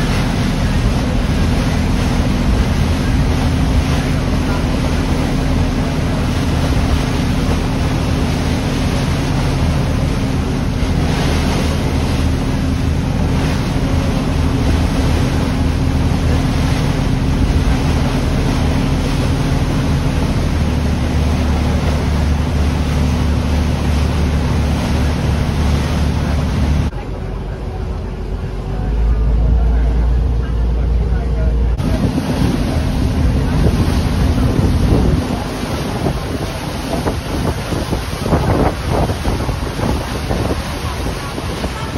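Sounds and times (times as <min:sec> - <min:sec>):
boat engine droning: 0:00.0 - 0:41.9
rushing water: 0:00.0 - 0:41.9
wind: 0:00.0 - 0:41.9.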